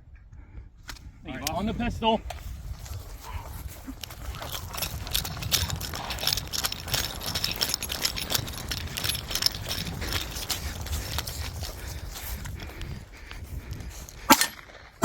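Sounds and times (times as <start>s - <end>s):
shooting gear rattling and clinking: 2.2s - 15.0s.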